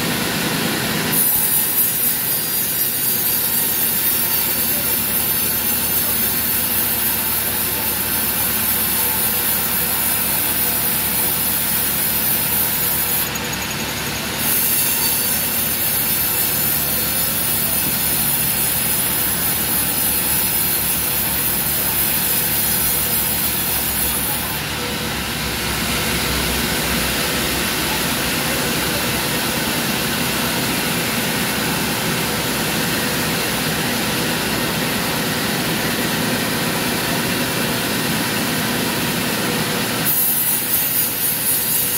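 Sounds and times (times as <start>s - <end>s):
band saw cutting log: 0.0s - 41.9s
band saw running: 0.0s - 41.9s.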